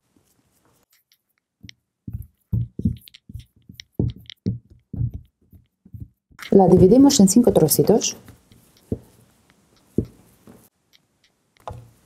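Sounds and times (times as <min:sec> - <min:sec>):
hands patting dough: 0:00.1 - 0:12.0.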